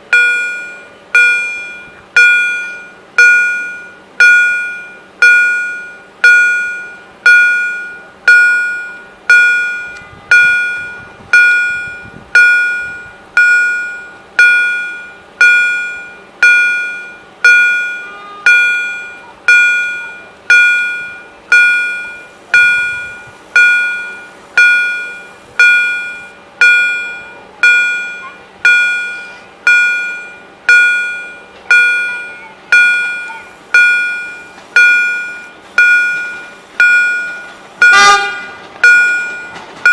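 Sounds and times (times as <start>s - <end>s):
level crossing bell ringing: 0.1s - 39.9s.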